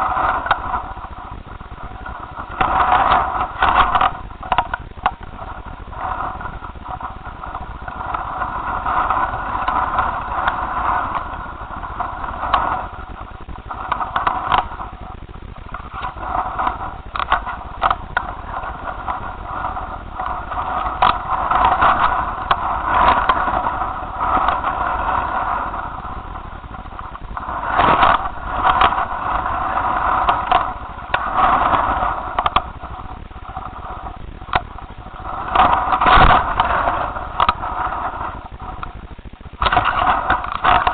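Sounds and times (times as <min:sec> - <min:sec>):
hum of steady tones: 0:00.0 - 0:40.9
wind buffeting microphone: 0:00.0 - 0:40.9.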